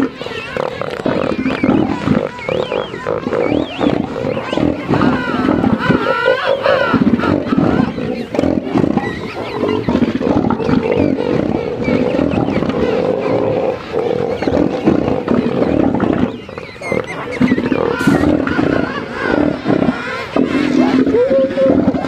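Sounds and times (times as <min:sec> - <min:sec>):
elephant seals throaty pulsing calls: 0:00.0 - 0:22.0.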